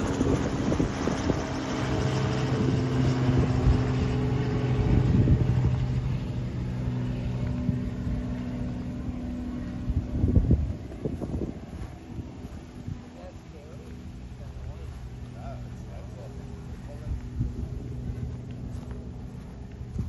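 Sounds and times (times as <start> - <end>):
engine drone: 0.0 - 20.0
wind rumbling on microphone: 0.0 - 20.0.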